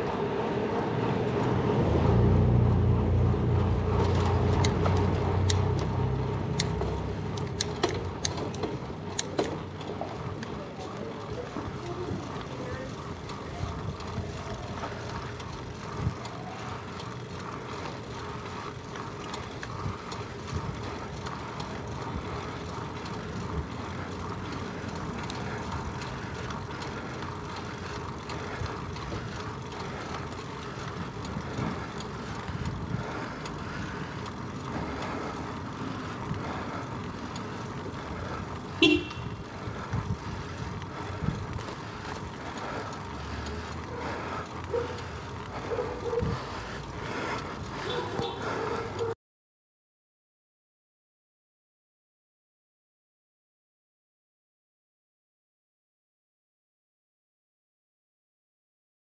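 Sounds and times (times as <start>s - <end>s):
wind and road noise: 0.0s - 49.2s.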